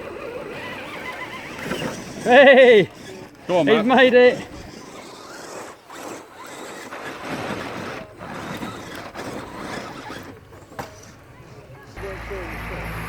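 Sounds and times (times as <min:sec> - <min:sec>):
small electric motor whirring: 0:00.0 - 0:12.2.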